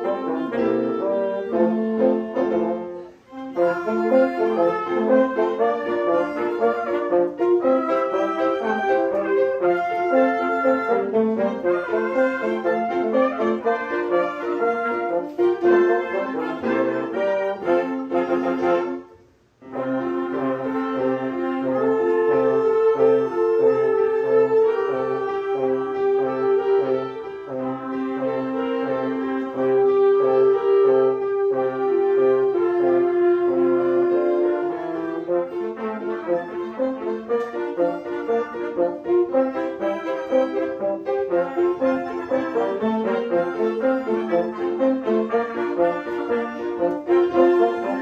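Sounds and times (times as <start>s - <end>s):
small ensemble playing hymn: 0.0s - 48.0s.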